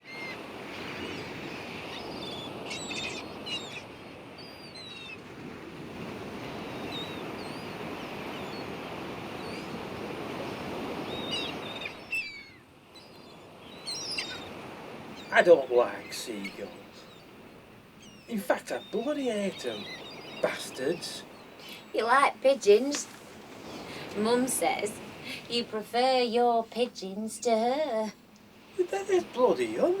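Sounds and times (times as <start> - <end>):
seagulls calling: 0.0 - 30.0
surf washing on a beach: 0.0 - 30.0.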